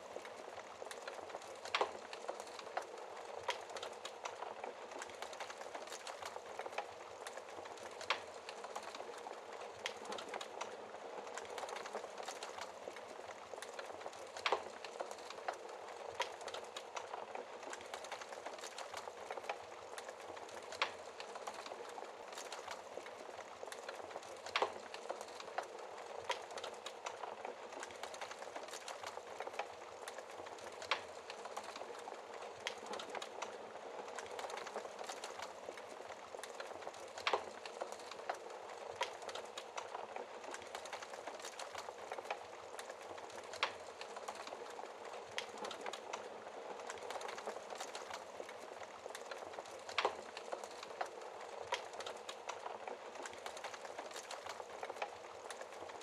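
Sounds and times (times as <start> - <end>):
wood fire crackling: 0.0 - 56.0
fire pops: 0.2 - 55.8.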